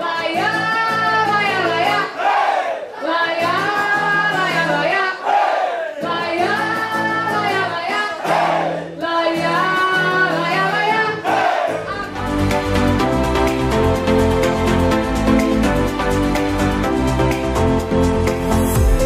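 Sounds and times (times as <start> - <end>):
song with sung vocals: 0.0 - 17.6.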